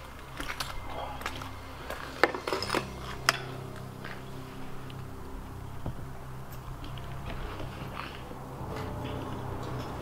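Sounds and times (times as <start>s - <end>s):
debris and glass clinking underfoot: 0.0s - 10.0s.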